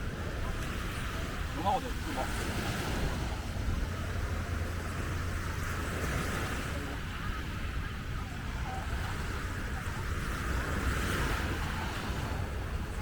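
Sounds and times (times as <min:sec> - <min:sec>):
faint voices: 0:00.0 - 0:13.0
surf washing: 0:00.0 - 0:13.0.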